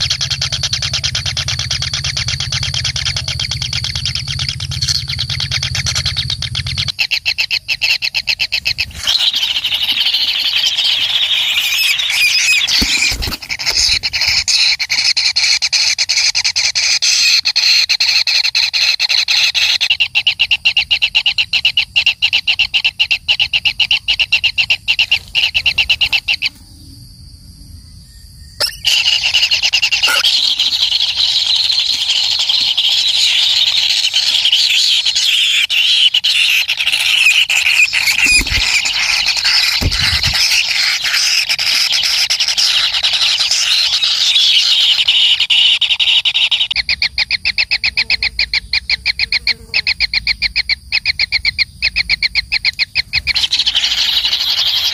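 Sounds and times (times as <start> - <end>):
nestlings begging buzz: 0.0 - 20.9, 28.5 - 54.9.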